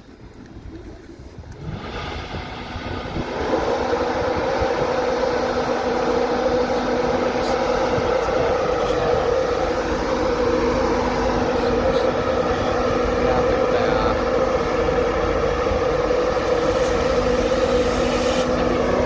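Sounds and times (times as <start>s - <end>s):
train engine humming: 0.0s - 19.0s.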